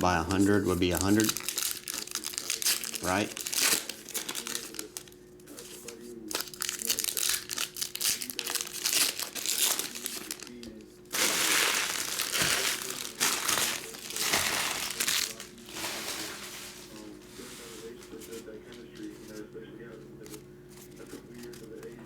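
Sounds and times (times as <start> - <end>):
card pack wrappers crinkling: 0.0 - 19.4, 20.2 - 22.0.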